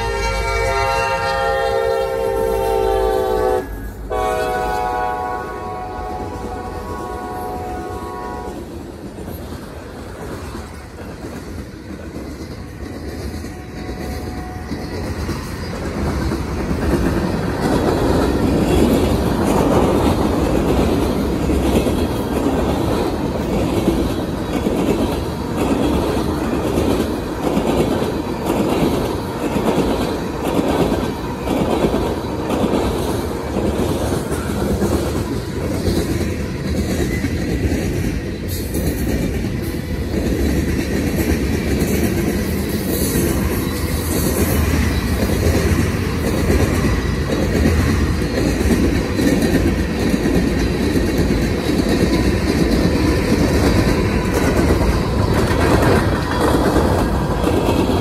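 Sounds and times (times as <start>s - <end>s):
train rumble: 0.0s - 58.0s
train wheels clacking over rail joints: 4.1s - 58.0s.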